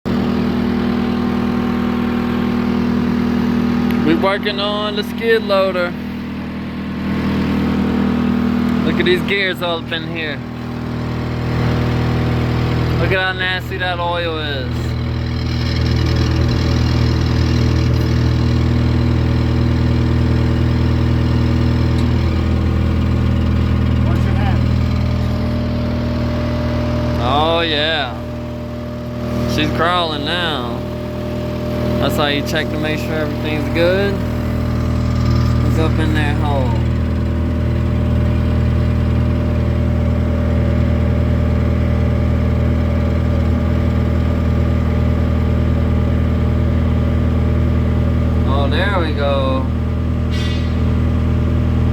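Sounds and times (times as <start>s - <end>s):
diesel engine idling: 0.1s - 51.9s.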